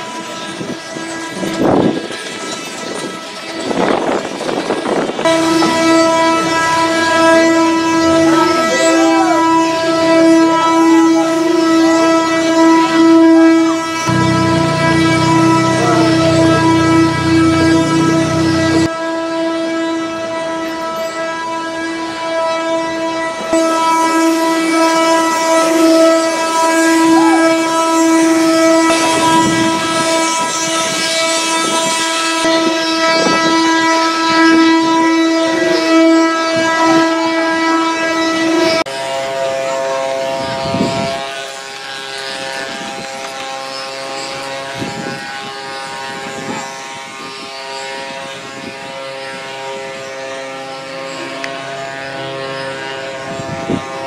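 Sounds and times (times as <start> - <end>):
wooden cart axle whining drone: 0.0 - 54.0.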